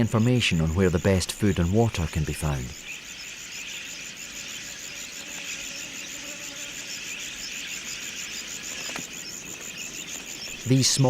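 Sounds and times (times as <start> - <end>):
constant high hiss: 0.0 - 11.0
insects chirring: 0.0 - 11.0.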